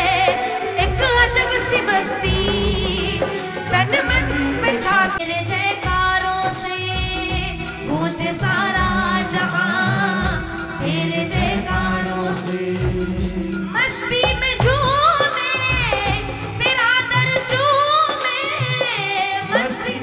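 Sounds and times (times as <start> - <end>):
live musical accompaniment: 0.0 - 20.0
woman singing devotional song: 0.0 - 20.0.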